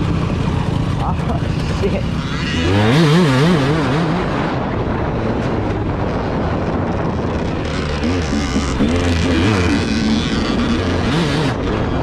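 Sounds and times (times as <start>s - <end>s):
vehicle running: 0.0s - 12.0s
wind noise on microphone: 0.0s - 12.0s.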